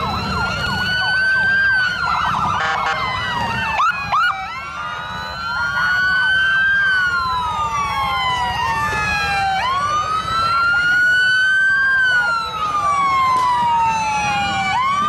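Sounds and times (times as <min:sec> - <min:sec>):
police sirens wailing: 0:00.0 - 0:15.0.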